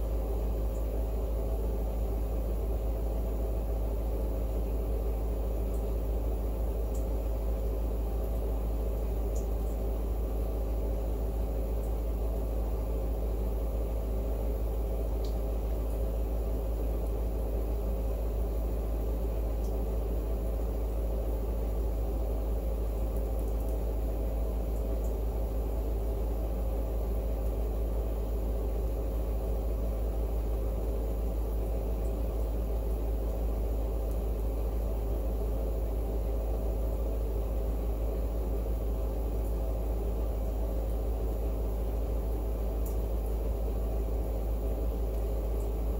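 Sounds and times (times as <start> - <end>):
faint hum: 0.0 - 45.9.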